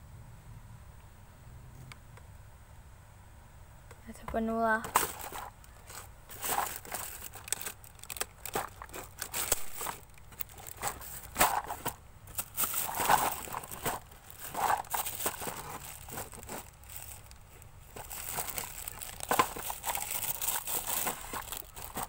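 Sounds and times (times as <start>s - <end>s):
plastic containers clicking and knocking: 4.3s - 22.0s.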